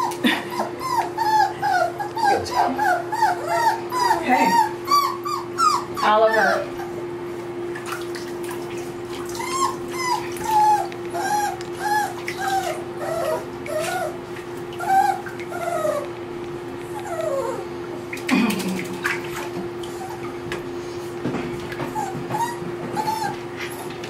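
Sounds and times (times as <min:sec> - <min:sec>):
puppy whining: 0:00.0 - 0:07.2, 0:08.8 - 0:24.0.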